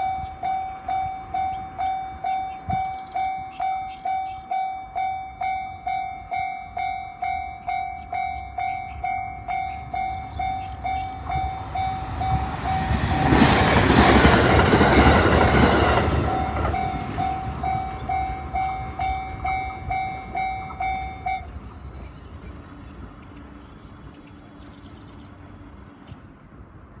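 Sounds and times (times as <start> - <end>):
crossing warning bell ringing: 0.0 - 24.8
train passing: 0.0 - 27.0.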